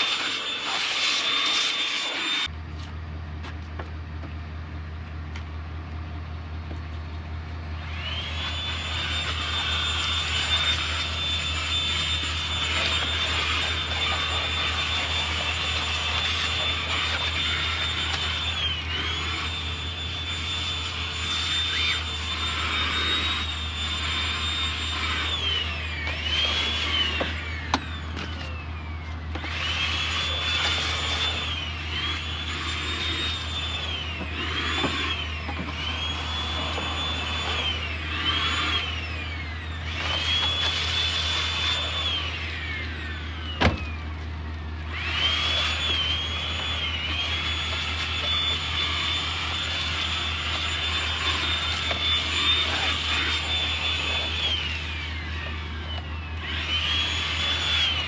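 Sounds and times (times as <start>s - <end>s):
cordless vacuum whining: 0.0s - 2.5s, 7.8s - 58.0s.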